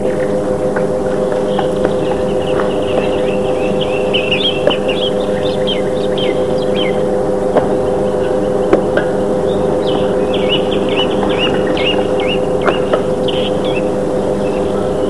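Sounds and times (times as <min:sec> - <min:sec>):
small birds chirping: 0:00.0 - 0:15.0
steady hum: 0:00.0 - 0:15.0.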